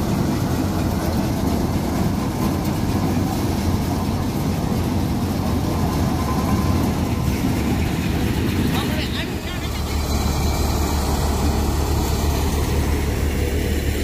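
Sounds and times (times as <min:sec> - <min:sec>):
threshing machine rumbling: 0:00.0 - 0:14.0.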